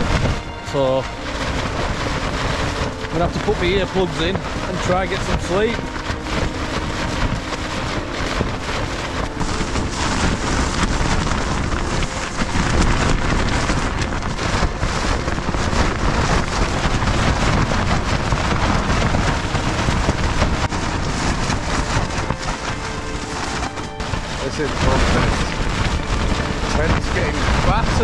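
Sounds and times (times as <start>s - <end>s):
tent fabric flapping: 0.0s - 28.0s
wind rumble on microphone: 0.0s - 28.0s.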